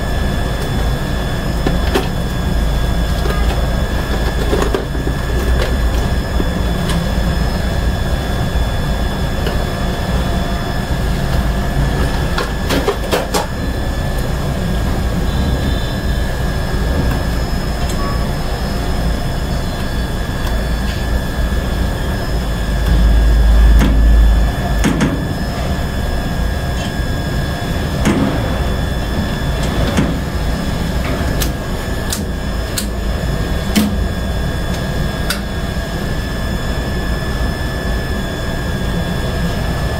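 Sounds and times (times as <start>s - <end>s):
machinery humming with high whine: 0.0s - 39.9s.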